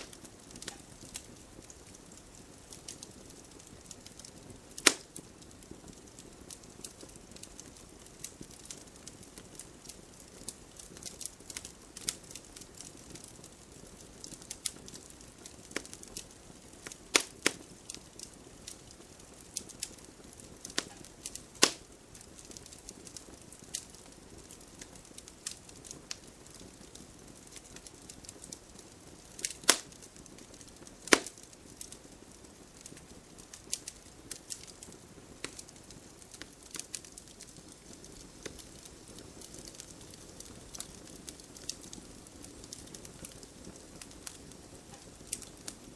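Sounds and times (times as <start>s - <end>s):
campfire crackling and popping: 0.0s - 45.9s
fire hissing: 0.0s - 45.9s.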